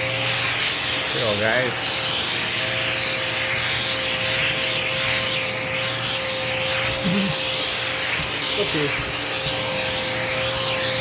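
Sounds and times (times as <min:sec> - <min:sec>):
vacuum cleaner whining: 0:00.0 - 0:11.0
vacuum tool scraping upholstery: 0:00.0 - 0:11.0.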